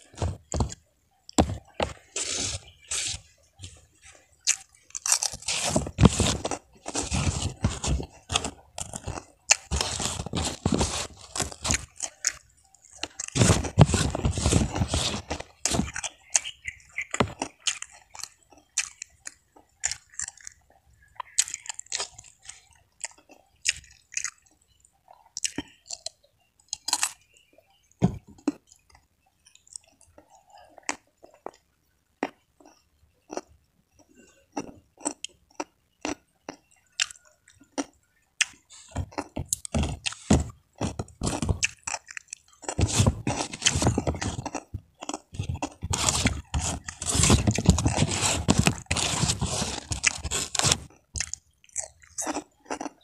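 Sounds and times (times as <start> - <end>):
crunching cracker: 0.0 - 27.3, 32.2 - 53.0.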